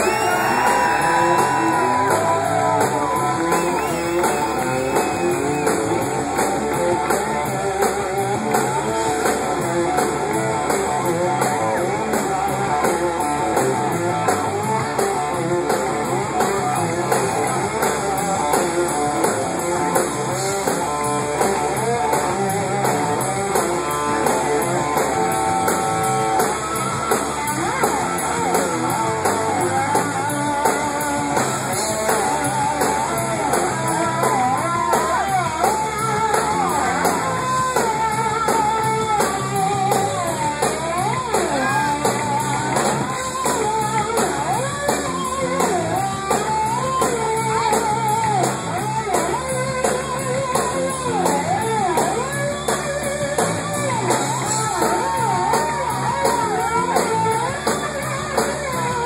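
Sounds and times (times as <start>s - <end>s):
electric guitars: 0.0s - 59.0s
live rock band playing: 0.0s - 59.0s.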